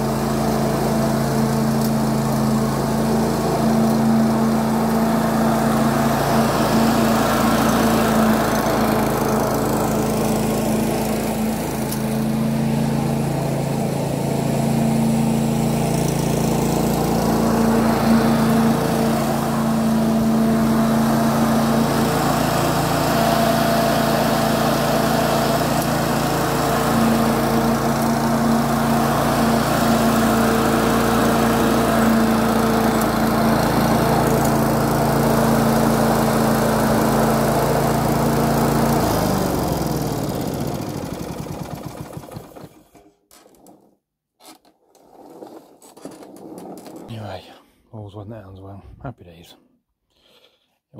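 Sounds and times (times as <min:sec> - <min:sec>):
lawn mower engine running: 0:00.0 - 0:43.0.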